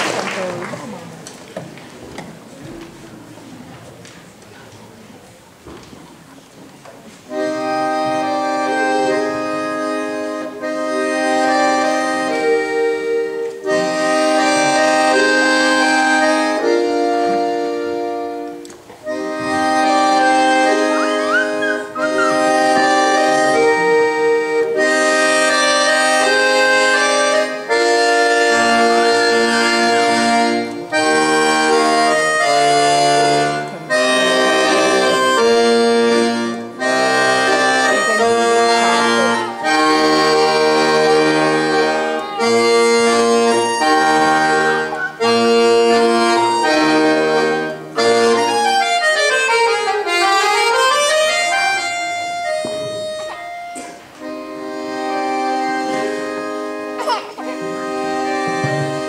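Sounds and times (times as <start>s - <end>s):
piano accordion playing: 7.2s - 59.0s.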